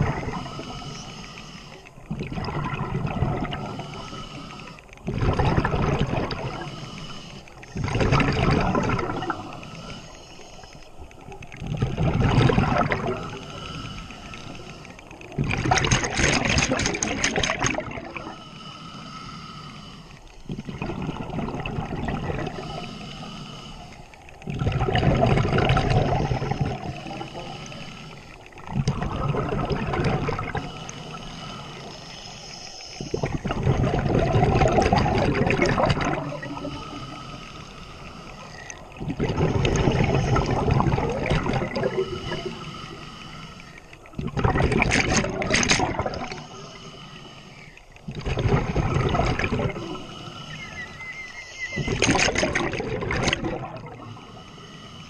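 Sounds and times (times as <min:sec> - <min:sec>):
underwater exhaled bubbles: 0:00.0 - 0:55.0.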